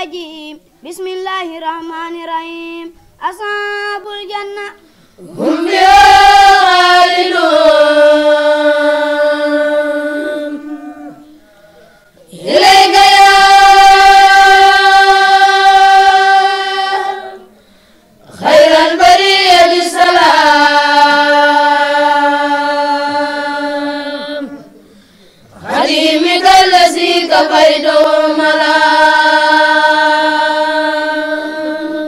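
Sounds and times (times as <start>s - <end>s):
boys chanting in unison: 4.0s - 11.6s, 12.3s - 32.0s.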